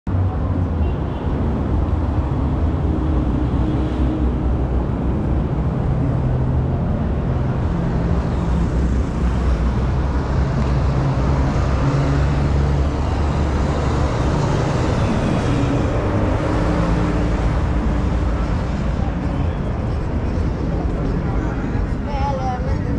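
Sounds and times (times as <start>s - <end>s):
traffic rumble: 0.1s - 22.9s.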